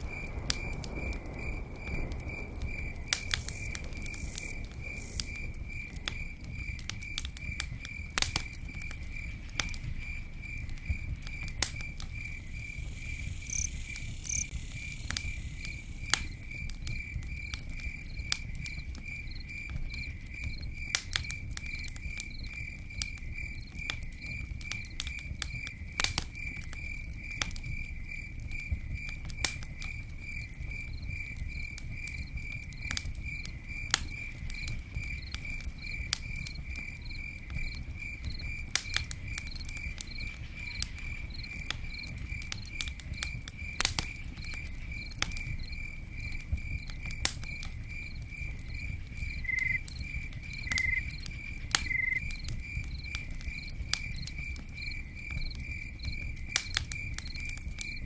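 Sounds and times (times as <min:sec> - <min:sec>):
campfire crackling and popping: 0:00.0 - 0:58.0
cricket chirping: 0:00.0 - 0:58.0
low rumble of flame: 0:00.0 - 0:58.0.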